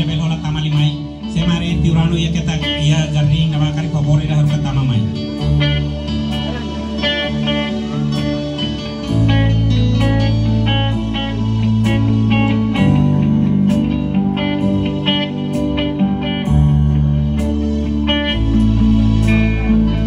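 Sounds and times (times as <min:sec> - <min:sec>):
guitar: 0:00.0 - 0:20.0
held bass notes: 0:00.0 - 0:20.0.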